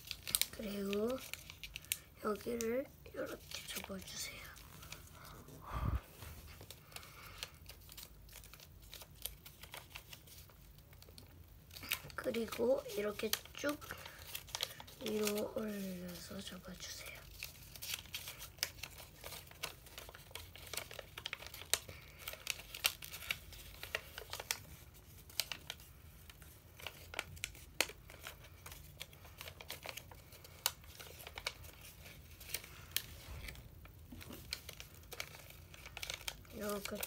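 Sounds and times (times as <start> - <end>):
paper folding and crinkling: 0.0 - 37.0
sharp paper crackles: 0.0 - 37.0.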